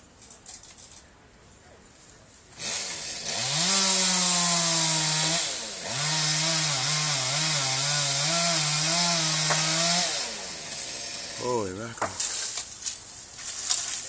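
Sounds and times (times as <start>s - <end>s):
chainsaw cutting branch: 2.6s - 14.0s.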